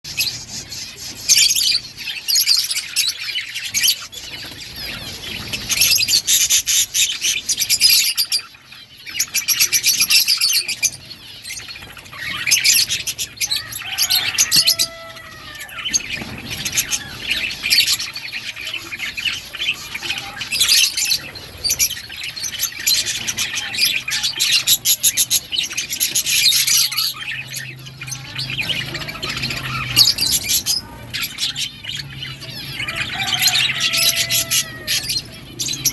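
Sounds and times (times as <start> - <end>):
budgerigars chattering and chirping: 0.1 - 35.9.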